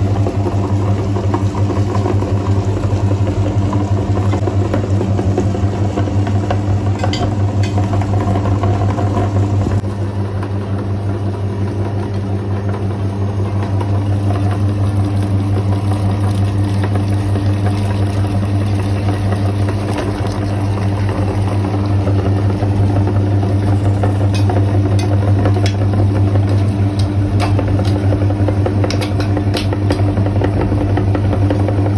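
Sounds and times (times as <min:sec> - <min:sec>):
meat grinder motor humming: 0:00.0 - 0:31.9.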